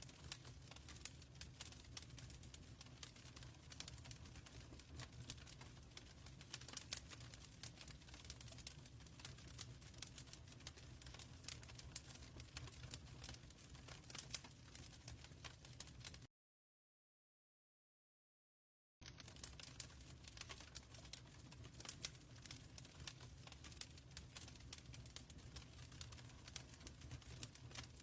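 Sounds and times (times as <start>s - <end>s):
wood fire crackling: 0.0s - 16.3s, 19.0s - 28.0s.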